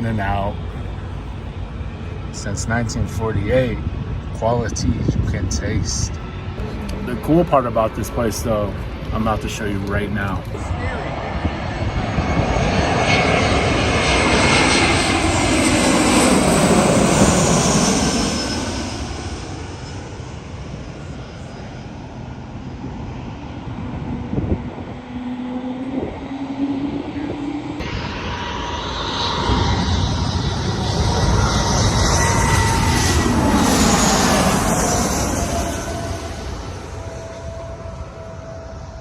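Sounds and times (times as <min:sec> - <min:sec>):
airliner passing overhead: 0:00.0 - 0:39.0.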